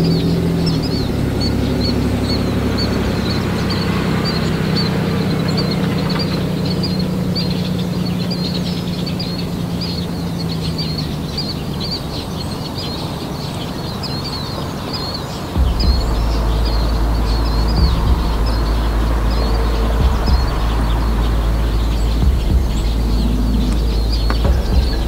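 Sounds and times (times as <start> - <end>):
birds chirping: 0.0 - 25.0
outboard motor hum: 0.0 - 25.0.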